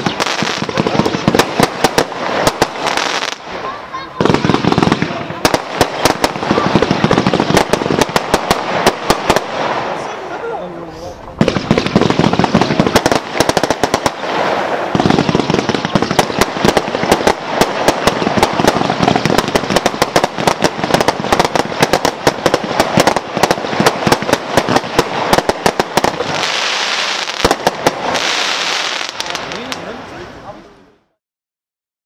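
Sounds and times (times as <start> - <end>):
firework shots and bursts: 0.0 - 10.4, 11.4 - 30.5
firework hiss: 0.0 - 30.8.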